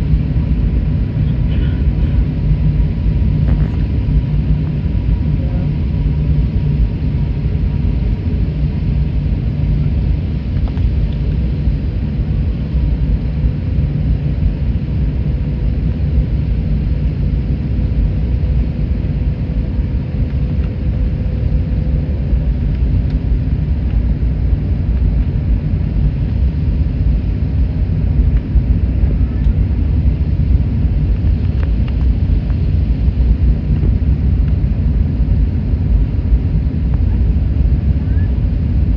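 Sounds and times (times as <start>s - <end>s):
jet engine cabin rumble: 0.0s - 38.9s.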